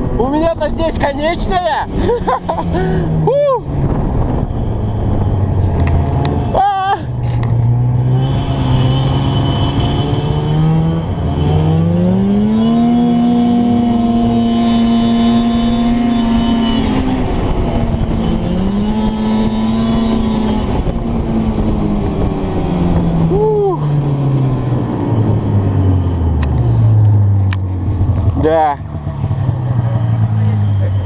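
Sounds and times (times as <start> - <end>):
vehicle engine accelerating: 1.6 - 31.0.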